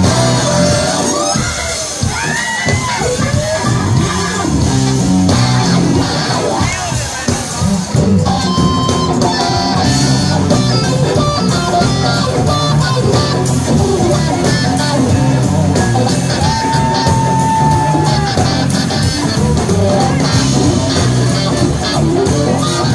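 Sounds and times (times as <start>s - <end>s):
electric guitar lead: 0.0s - 22.9s
live rock band playing: 0.0s - 22.9s.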